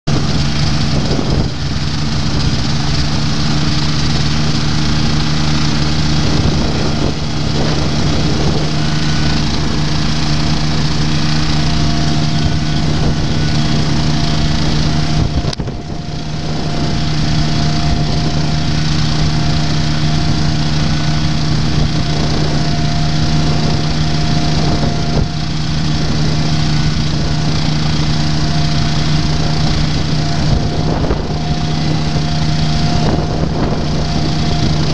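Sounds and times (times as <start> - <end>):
ultralight aircraft engine running: 0.0 - 34.9.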